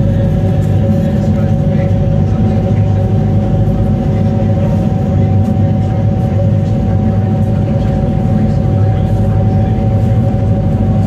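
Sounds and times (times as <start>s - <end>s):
engine whine: 0.0s - 11.0s
ferry engines droning: 0.0s - 11.0s.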